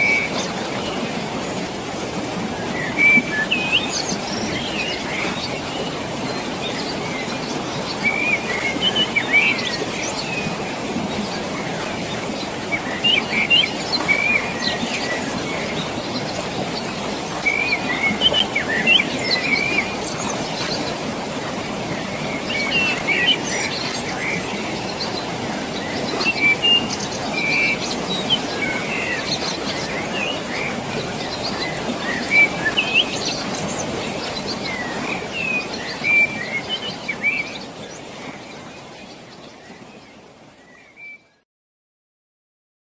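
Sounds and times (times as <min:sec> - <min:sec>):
water rushing: 0:00.0 - 0:41.1
small birds chirping: 0:02.8 - 0:40.1.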